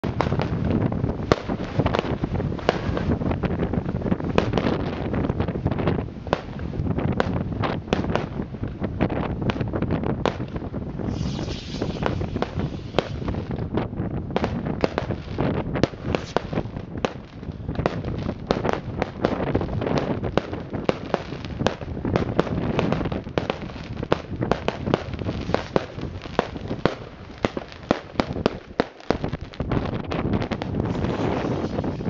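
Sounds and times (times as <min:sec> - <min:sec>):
fireworks and firecrackers banging: 0:00.0 - 0:32.0.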